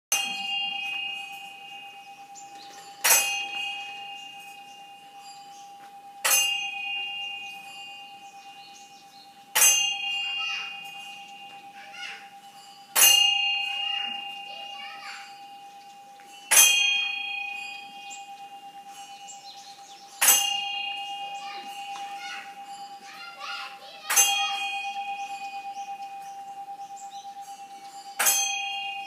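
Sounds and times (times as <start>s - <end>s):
bell-like metal tone struck: 0.1s - 29.0s.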